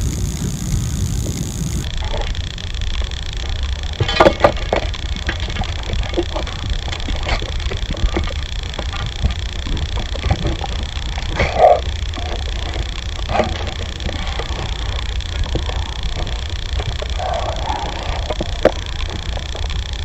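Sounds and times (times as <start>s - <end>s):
wind on microphone: 0.0s - 20.0s
animal snarling and growling: 1.8s - 20.0s.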